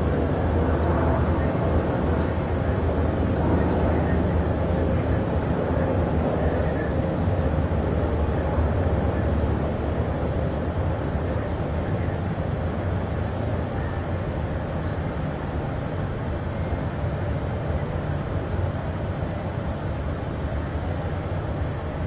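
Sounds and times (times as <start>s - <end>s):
low rumbling background noise: 0.0s - 22.0s.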